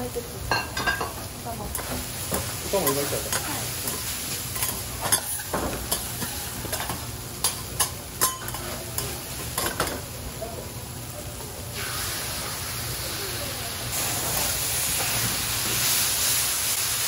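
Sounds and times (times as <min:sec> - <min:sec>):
food sizzling on griddle: 0:00.0 - 0:17.0.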